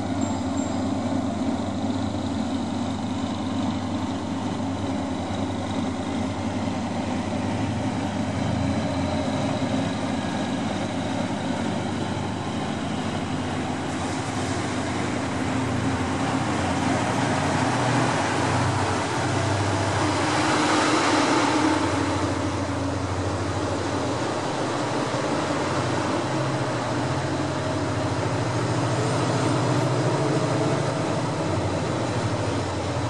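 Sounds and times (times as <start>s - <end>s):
locomotive diesel engine running: 0.0s - 33.0s.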